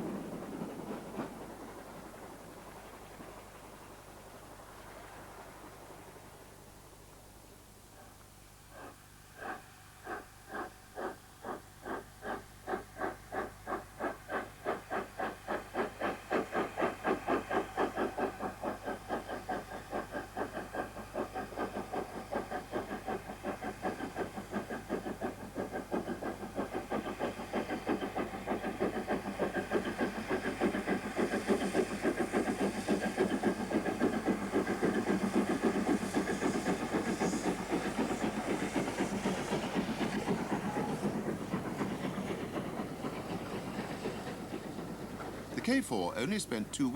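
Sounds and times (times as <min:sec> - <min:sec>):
steam hissing: 0:00.0 - 0:07.1, 0:08.0 - 0:46.9
steam locomotive chuffing: 0:00.0 - 0:46.9.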